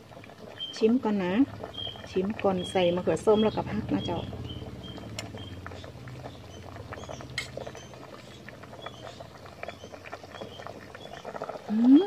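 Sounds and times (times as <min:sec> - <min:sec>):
curry bubbling in a pot: 0:00.0 - 0:12.0.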